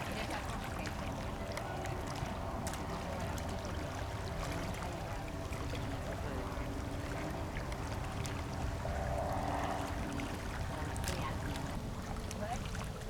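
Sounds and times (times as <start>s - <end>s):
distant propeller aircraft droning: 0.0s - 13.0s
low wind rumble: 0.0s - 13.0s.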